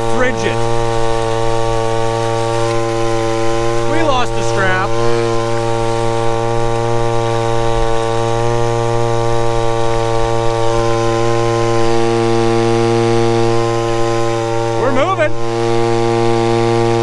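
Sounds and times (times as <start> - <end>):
two-stroke water pump engine: 0.0 - 17.0.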